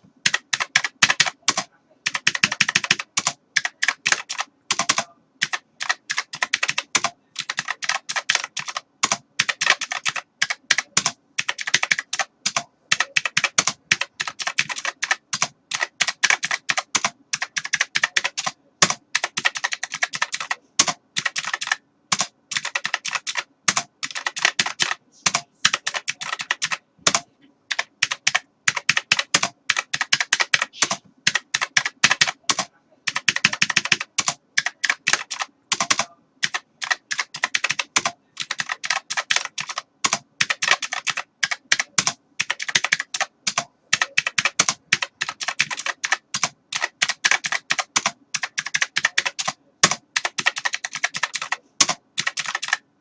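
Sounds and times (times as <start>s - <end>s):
typing on computer keyboard: 0.2s - 52.8s.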